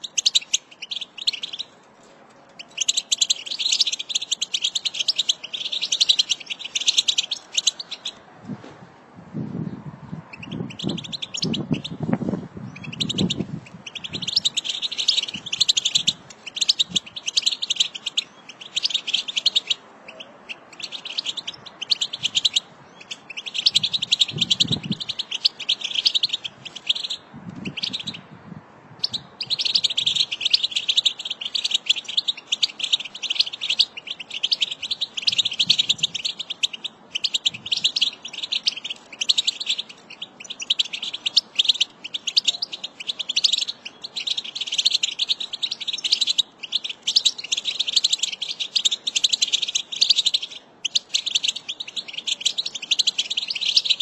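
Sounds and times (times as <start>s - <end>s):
bird twittering and chirping: 0.0s - 1.8s, 2.5s - 8.2s, 10.1s - 28.3s, 29.0s - 54.0s.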